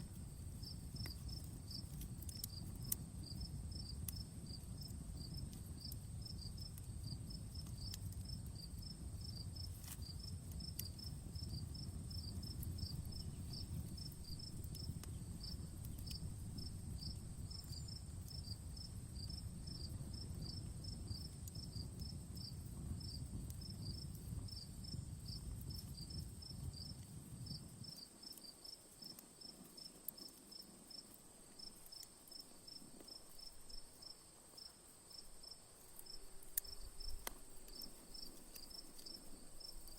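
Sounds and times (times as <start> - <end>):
campfire crackles: 0.0 - 39.9
crickets chirping: 0.0 - 39.9.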